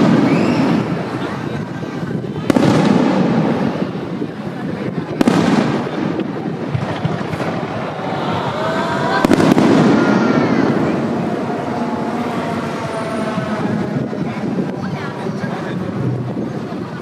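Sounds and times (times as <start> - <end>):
fireworks crackling and rumbling: 0.0 - 17.0.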